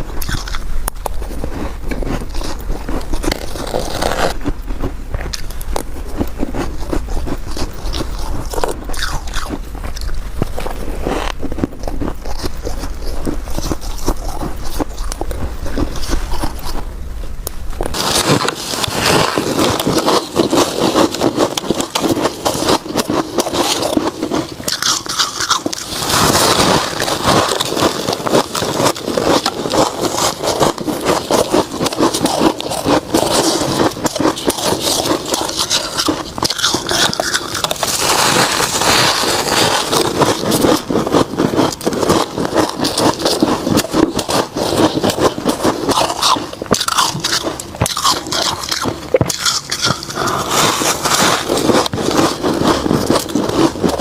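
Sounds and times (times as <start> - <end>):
person chewing crunchy ice: 0.0 - 54.0.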